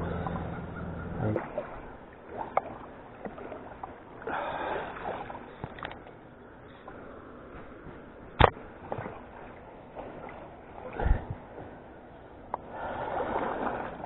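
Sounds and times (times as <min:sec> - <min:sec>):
water splashing: 0:00.0 - 0:06.2, 0:06.8 - 0:12.0, 0:12.6 - 0:14.0
water lapping against kayak: 0:00.0 - 0:14.0.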